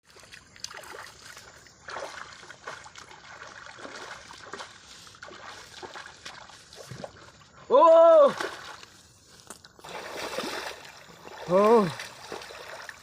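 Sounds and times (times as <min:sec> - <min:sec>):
shallow water trickling: 0:00.0 - 0:13.0
small water splashes: 0:00.0 - 0:13.0.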